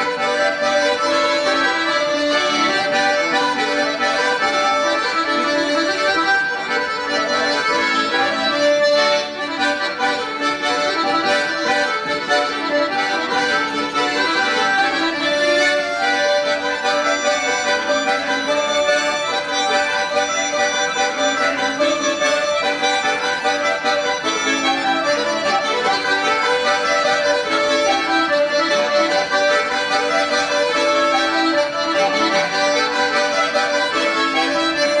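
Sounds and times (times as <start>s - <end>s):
accordions playing chords and melody: 0.0s - 35.0s.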